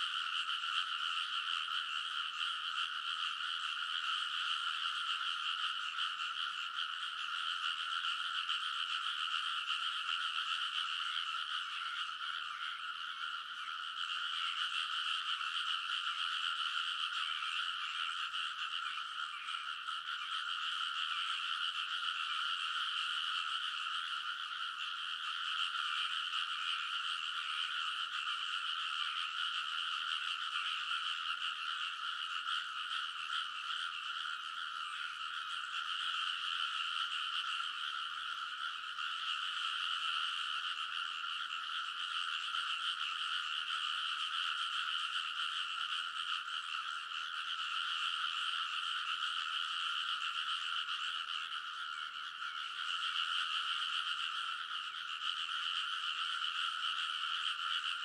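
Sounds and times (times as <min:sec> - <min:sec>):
chorus of frogs croaking: 0:00.0 - 0:58.0.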